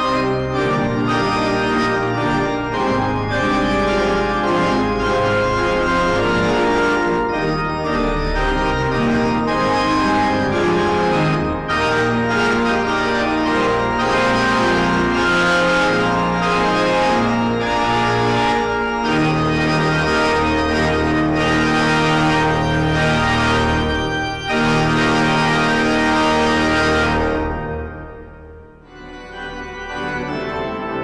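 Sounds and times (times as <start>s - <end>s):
organ playing full chords: 0.0s - 31.0s.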